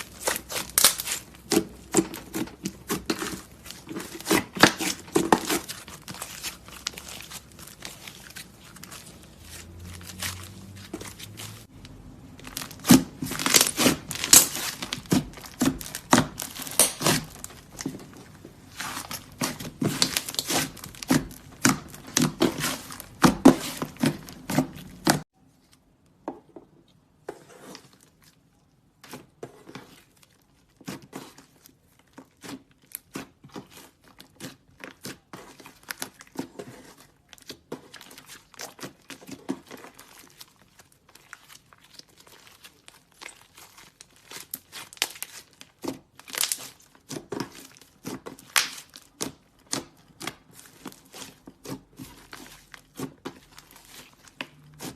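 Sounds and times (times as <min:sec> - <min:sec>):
clay slime squished by hand: 0:00.0 - 0:26.0, 0:27.7 - 0:54.9.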